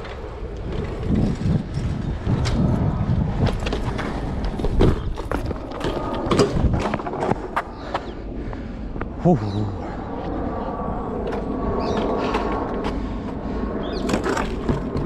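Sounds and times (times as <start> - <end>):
bike tyres rumbling on concrete: 0.0 - 9.1, 11.1 - 15.0.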